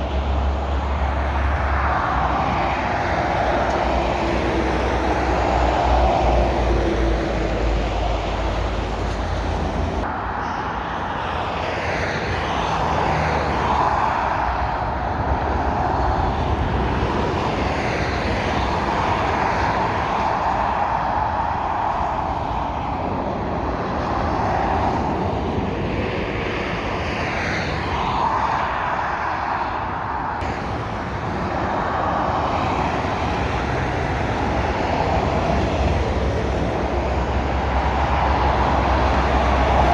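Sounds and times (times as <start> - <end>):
lorries and cars passing: 0.0 - 39.9.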